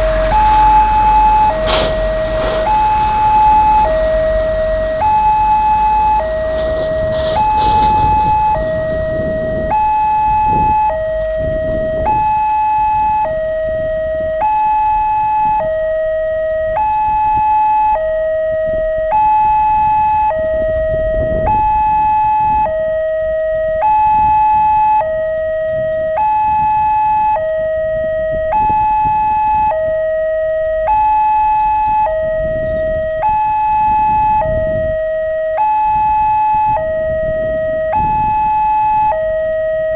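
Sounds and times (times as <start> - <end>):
electronic two-tone crossing alarm: 0.0 - 39.9.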